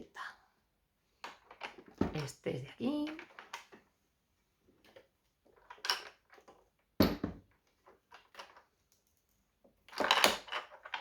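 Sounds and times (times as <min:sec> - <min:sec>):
plastic parts clicking and knocking: 0:01.2 - 0:03.9, 0:04.8 - 0:11.0.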